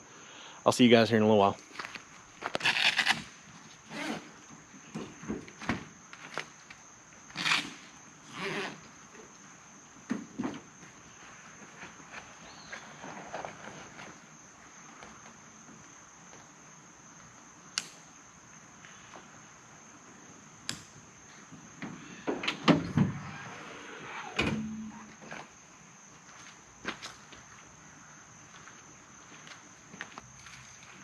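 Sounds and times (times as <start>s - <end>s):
crickets chirring: 0.0s - 31.0s.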